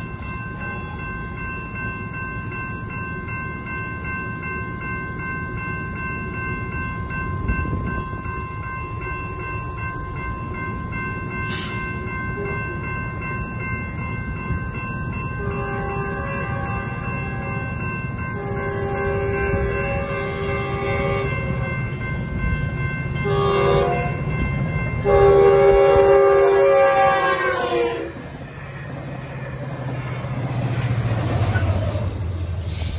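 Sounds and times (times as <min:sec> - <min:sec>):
railroad crossing bell ringing: 0:00.0 - 0:32.8.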